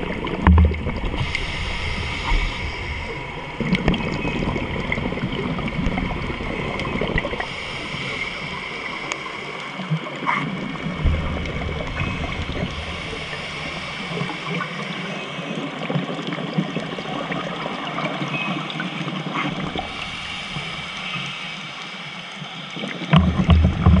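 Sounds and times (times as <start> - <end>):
steady watery hiss: 0.0 - 24.0
underwater regulator bubbles gurgling: 0.0 - 24.0.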